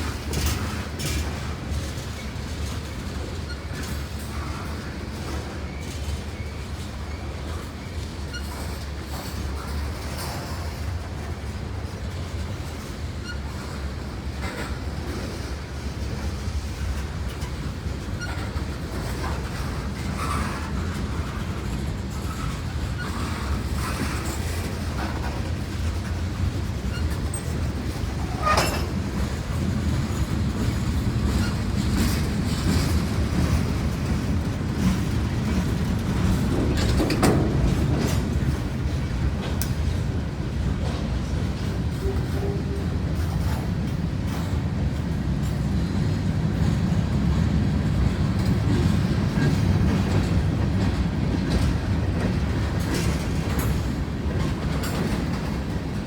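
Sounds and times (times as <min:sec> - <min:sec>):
freight train rumbling: 0:00.0 - 0:56.0
wheels clacking over rail joints: 0:00.0 - 0:56.0.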